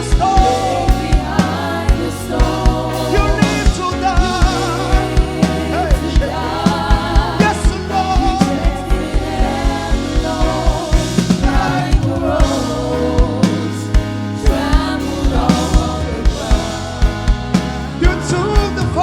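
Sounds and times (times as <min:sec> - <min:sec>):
band with low beat: 0:00.0 - 0:19.0
voices singing gospel: 0:00.0 - 0:19.0.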